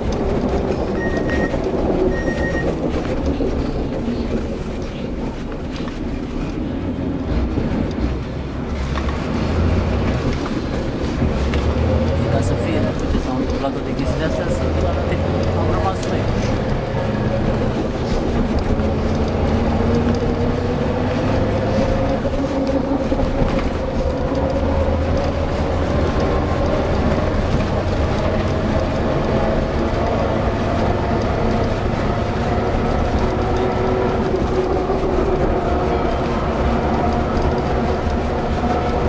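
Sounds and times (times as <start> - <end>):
rising engine whine: 0.0 - 39.0
van engine and road rumble: 0.0 - 39.0.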